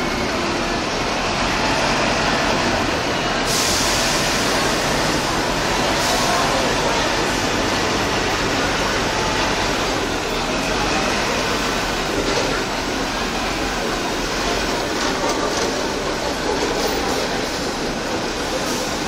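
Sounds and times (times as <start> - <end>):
bus diesel engine passing: 0.0 - 19.0.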